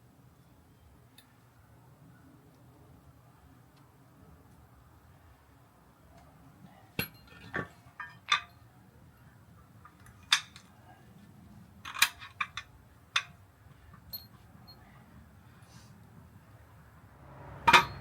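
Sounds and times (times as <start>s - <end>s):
faint steady background hum: 0.0s - 18.0s.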